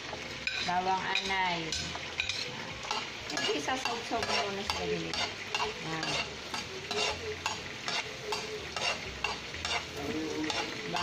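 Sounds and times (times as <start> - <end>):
garlic frying in oil: 0.0 - 11.0
metal spatula scraping pan: 0.2 - 11.0.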